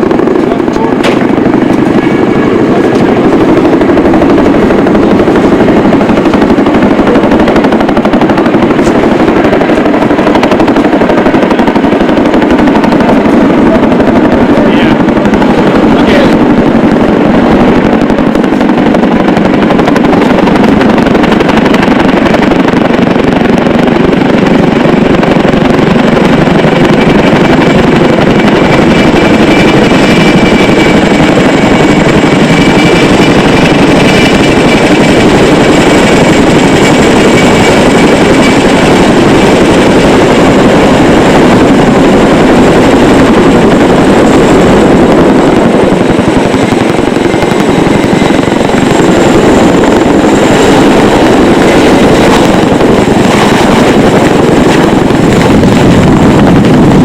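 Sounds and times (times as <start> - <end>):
helicopter rotor chop: 0.0 - 57.0
high whine: 0.0 - 57.0.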